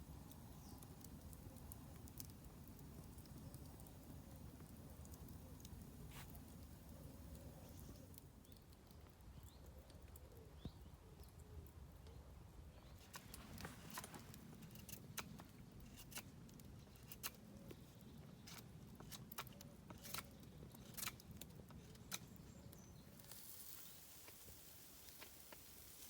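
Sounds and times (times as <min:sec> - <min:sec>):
campfire crackling: 0:00.0 - 0:12.2, 0:12.8 - 0:26.0.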